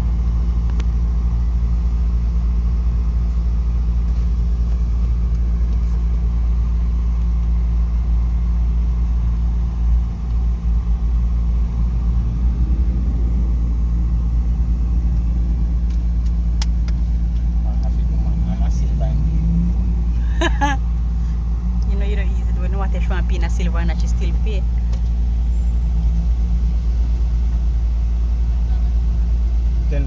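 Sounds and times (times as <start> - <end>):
car engine rumble from inside: 0.0 - 30.0.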